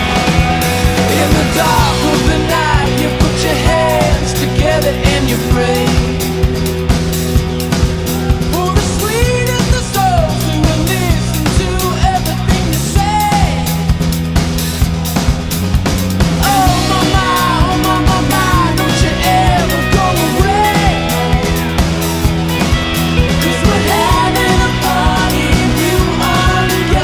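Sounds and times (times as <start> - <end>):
instrumental song: 0.0 - 27.0
steady drum beat: 0.0 - 27.0.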